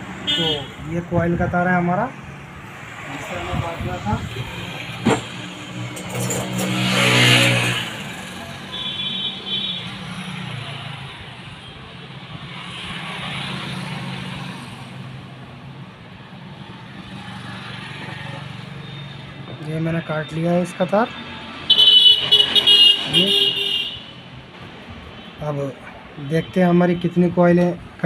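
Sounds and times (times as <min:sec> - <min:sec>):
vehicle engines passing by: 0:00.0 - 0:28.0.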